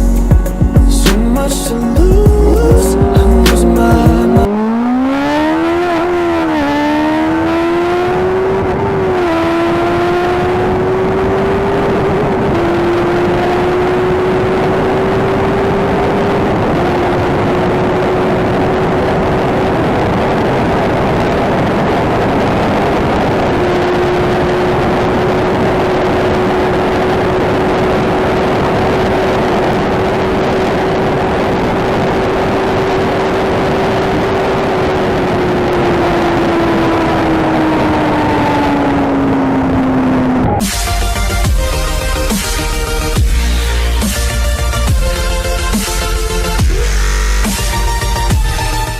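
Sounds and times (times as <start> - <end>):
motorcycle engine at high revs: 2.2 - 48.9
wind noise rushing: 6.8 - 48.9.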